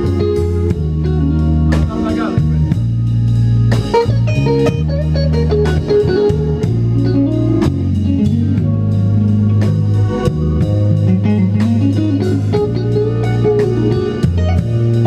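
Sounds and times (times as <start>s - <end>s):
bass notes: 0.0s - 15.0s
drums: 0.0s - 15.0s
electric guitar lead with bent notes: 0.0s - 15.0s.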